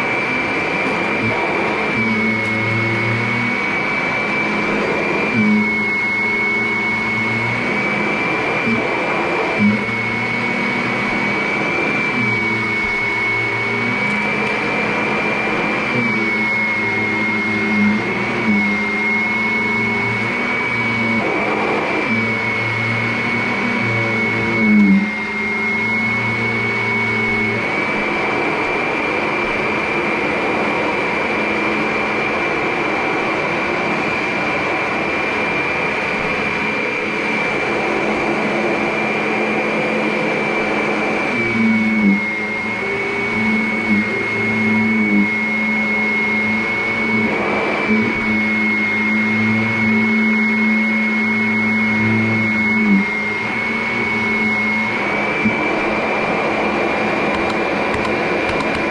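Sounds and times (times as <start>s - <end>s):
vacuum cleaner motor whine: 0.0s - 58.9s.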